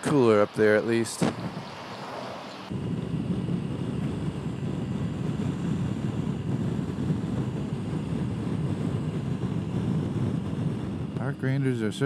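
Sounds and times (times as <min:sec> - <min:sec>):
road noise: 0:00.0 - 0:11.2
wind rush on microphone: 0:00.0 - 0:12.0.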